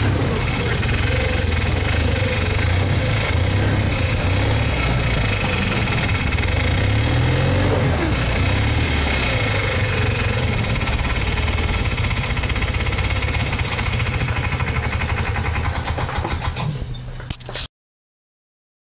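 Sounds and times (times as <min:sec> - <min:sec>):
flat-twin car engine running: 0:00.0 - 0:17.6.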